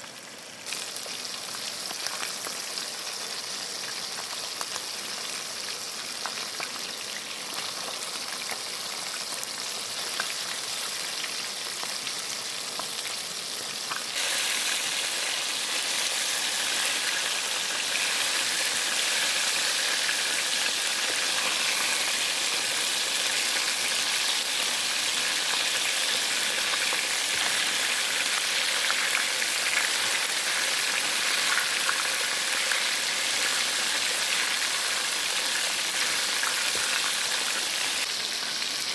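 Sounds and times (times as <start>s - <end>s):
chicken deep-frying in oil: 0.0s - 38.9s.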